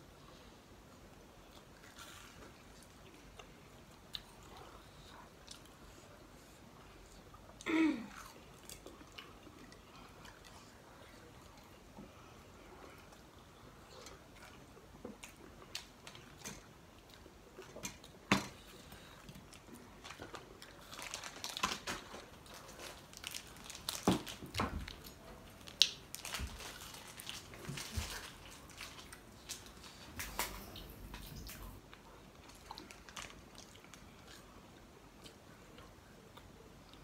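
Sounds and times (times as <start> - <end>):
people chewing crunchy food: 0.2 - 37.0.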